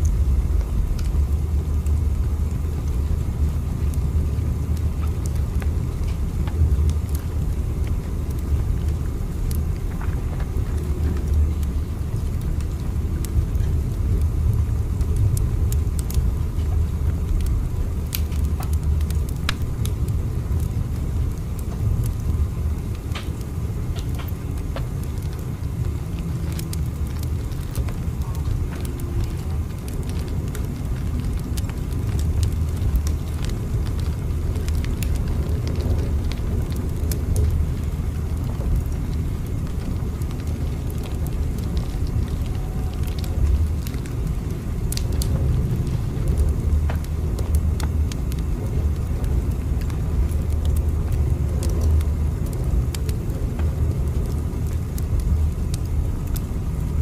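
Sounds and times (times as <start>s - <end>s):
faint irregular clicks: 4.7s - 56.5s.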